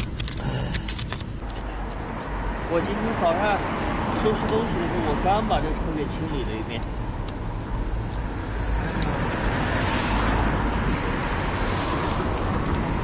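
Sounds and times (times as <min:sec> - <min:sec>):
steady low traffic rumble: 0:00.0 - 0:13.0
vehicle passing: 0:01.4 - 0:13.0.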